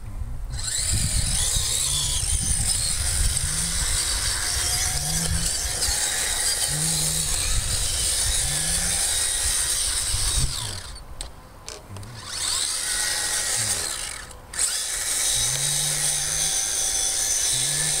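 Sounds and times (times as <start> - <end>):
electric motor revving: 0.5 - 11.0, 11.9 - 18.0.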